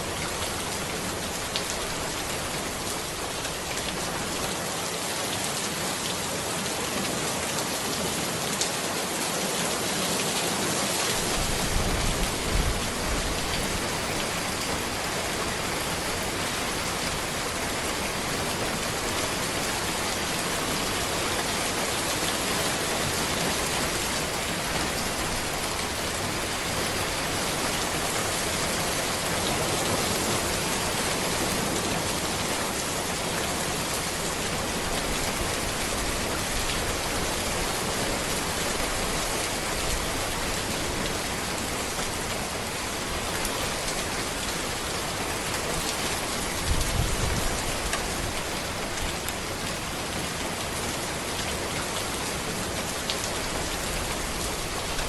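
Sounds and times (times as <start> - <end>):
rain falling on a road: 0.0 - 55.0.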